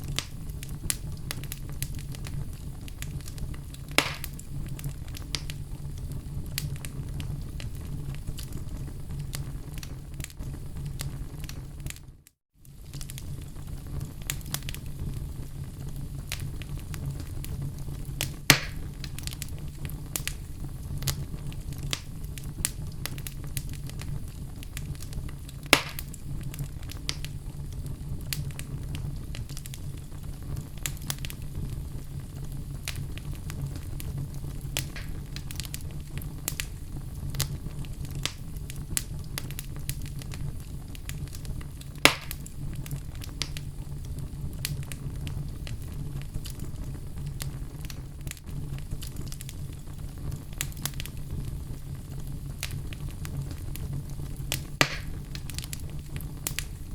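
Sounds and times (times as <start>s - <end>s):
fire crackling: 0.0s - 56.9s
loud fire pops: 0.0s - 56.9s.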